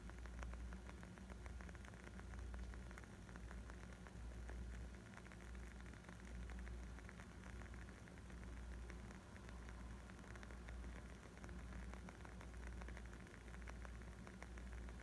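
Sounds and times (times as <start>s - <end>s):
wood fire crackling: 0.1s - 15.0s.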